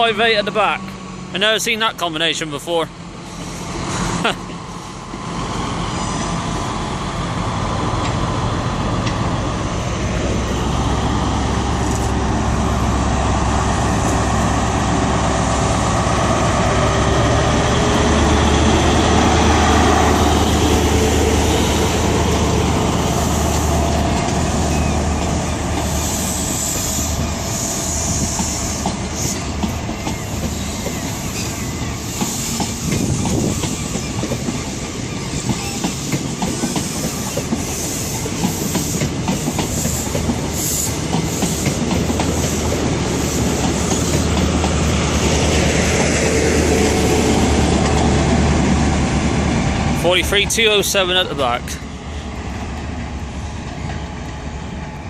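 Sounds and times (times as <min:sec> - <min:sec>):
diesel train engine humming: 0:00.0 - 0:55.0
train wheel noise: 0:00.0 - 0:55.0.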